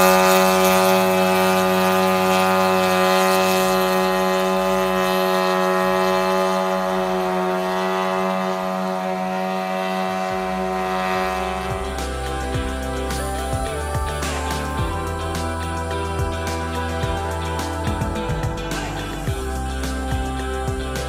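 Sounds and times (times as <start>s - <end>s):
drone rotors droning whine: 0.0s - 21.0s
music: 0.0s - 21.0s.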